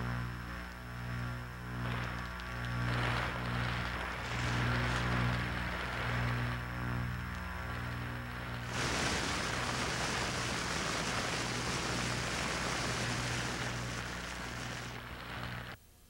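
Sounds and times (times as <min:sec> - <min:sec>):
low electrical hum: 0:00.0 - 0:16.0
steady dense rushing noise: 0:00.7 - 0:15.8.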